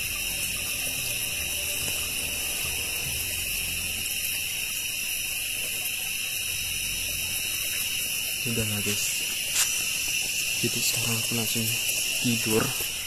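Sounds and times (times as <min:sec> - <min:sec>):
insect chorus shrilling: 0:00.0 - 0:13.0.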